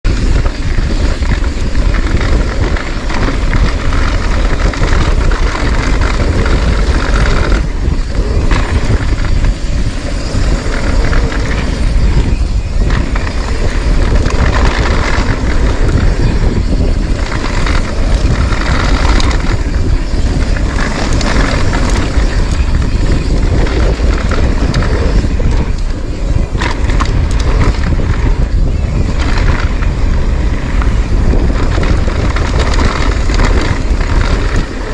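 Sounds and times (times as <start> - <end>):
bike clicks and rattles: 0.0 - 34.9
wind buffeting microphone: 0.0 - 34.9
tyres rushing on loose dirt: 0.1 - 34.9.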